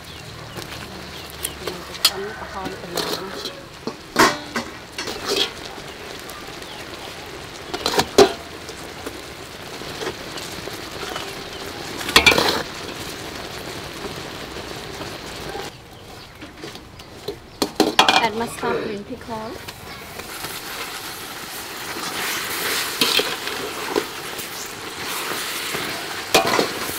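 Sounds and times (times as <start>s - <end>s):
sugar sauce sizzling and bubbling: 0.0s - 26.9s.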